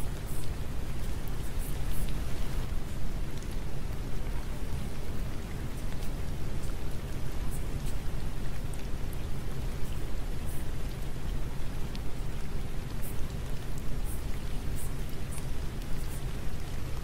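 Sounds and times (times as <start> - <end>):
steady rain patter: 0.0 - 17.0.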